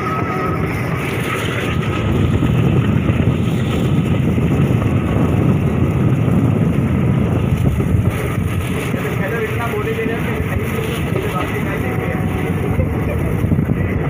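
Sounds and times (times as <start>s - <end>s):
rushing wind: 0.0s - 14.0s
train wheels rumbling on rails: 0.0s - 14.0s.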